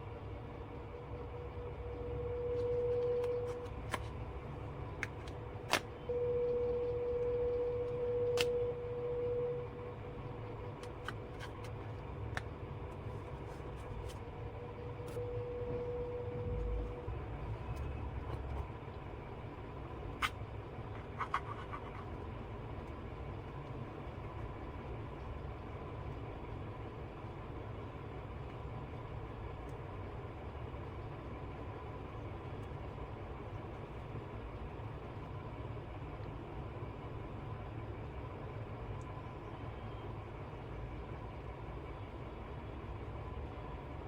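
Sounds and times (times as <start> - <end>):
faint hum: 0.0 - 44.0
low background rumble: 0.0 - 44.0.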